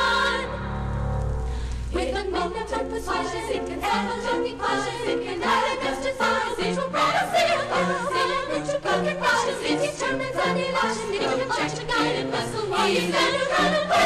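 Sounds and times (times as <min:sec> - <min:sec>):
girls' choir singing: 0:00.0 - 0:00.7, 0:01.9 - 0:14.0.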